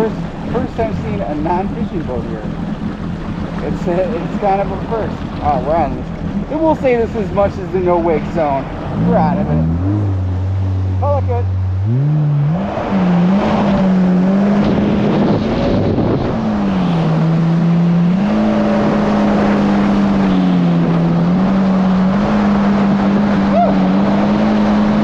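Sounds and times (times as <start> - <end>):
jet ski engine running: 0.0 - 25.0
water rushing: 0.0 - 25.0
wind: 0.0 - 25.0.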